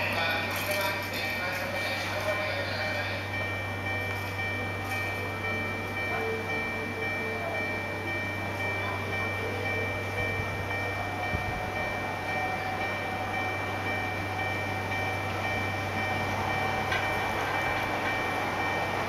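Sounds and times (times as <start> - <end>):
level crossing bell ringing: 1.9 - 19.0.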